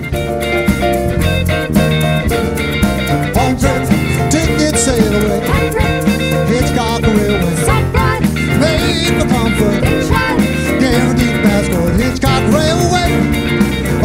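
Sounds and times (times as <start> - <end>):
rock band playing: 0.0 - 14.0
sliding melody line: 0.0 - 14.0.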